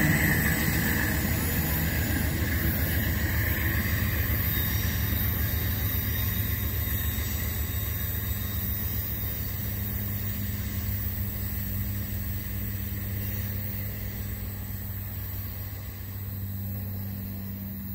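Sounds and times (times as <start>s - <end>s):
diesel train engine drone: 0.0s - 17.9s
train rumble: 0.0s - 17.9s.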